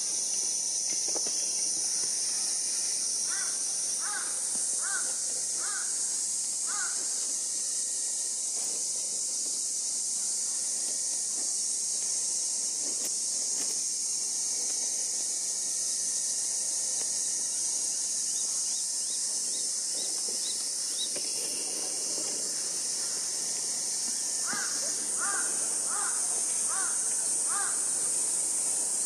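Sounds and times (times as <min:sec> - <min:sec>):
cicadas chorus: 0:00.0 - 0:29.0.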